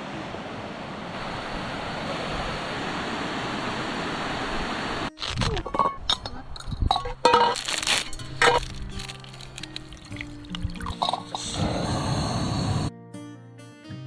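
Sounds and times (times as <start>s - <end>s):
rain and running water: 0.0s - 11.6s.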